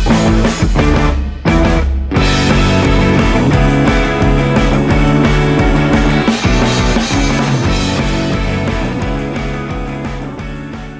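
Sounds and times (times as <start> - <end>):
rock instrumental with guitar: 0.0 - 10.9.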